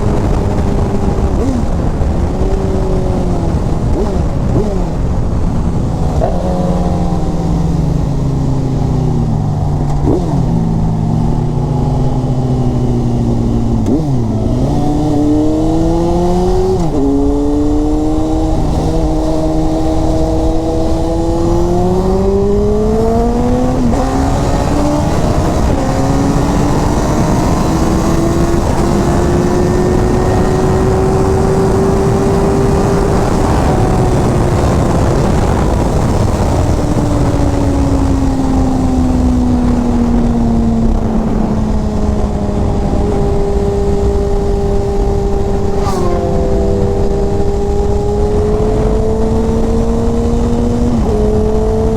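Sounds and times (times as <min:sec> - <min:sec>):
motorcycle engine revving: 0:00.0 - 0:51.9
wind rush: 0:00.0 - 0:51.9.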